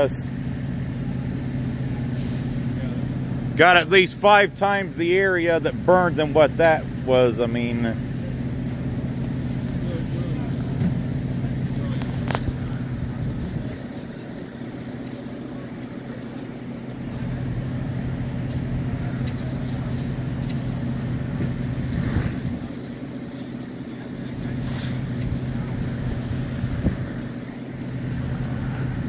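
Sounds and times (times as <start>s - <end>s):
heavy diesel engines droning: 0.0s - 29.0s.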